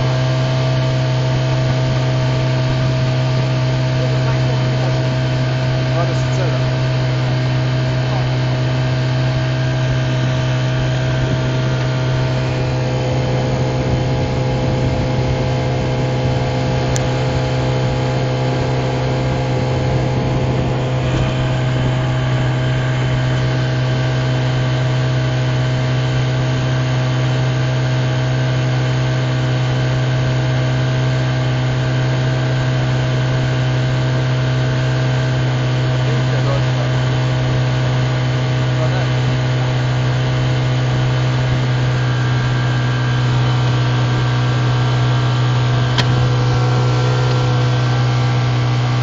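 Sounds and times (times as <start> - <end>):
outboard motor running: 0.0 - 49.0.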